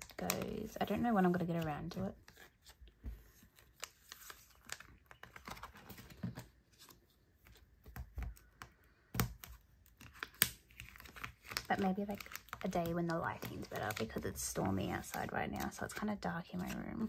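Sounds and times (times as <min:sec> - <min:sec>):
plastic binder pages rustling: 0:00.0 - 0:17.0.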